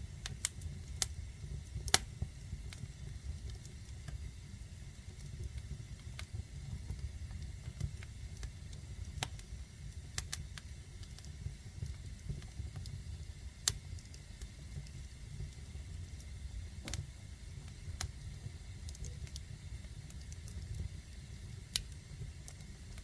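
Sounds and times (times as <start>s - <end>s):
fire crackling and popping: 0.0s - 23.0s
low fire rumble: 0.0s - 23.0s.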